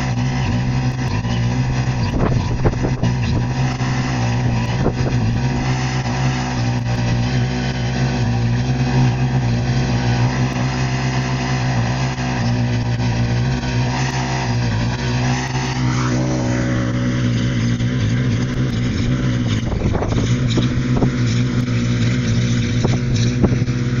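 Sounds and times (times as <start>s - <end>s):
tractor engine running under load: 0.0s - 24.0s.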